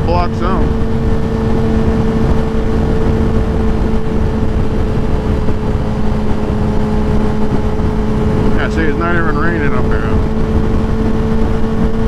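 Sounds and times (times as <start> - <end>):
motorcycle engine drone: 0.0 - 12.0
wind rush on microphone: 0.0 - 12.0.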